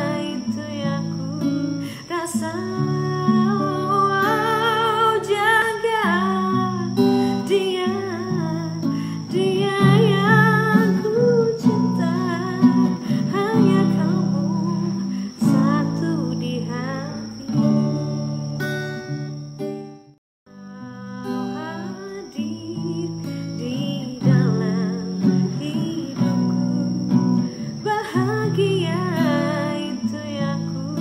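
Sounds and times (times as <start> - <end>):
woman singing: 0.0 - 19.0, 20.5 - 31.0
acoustic guitar strumming: 0.0 - 31.0.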